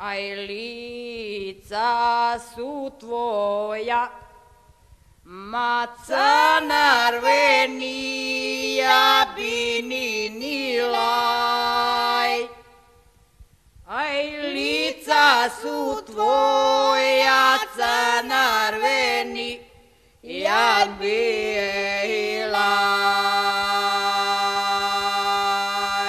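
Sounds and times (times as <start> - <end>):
woman singing unaccompanied: 0.0 - 4.4, 5.3 - 12.7, 13.9 - 26.0.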